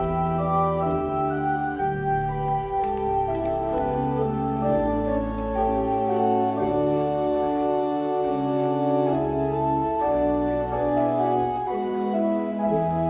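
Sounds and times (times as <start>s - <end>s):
organ playing slow chords: 0.0s - 13.0s.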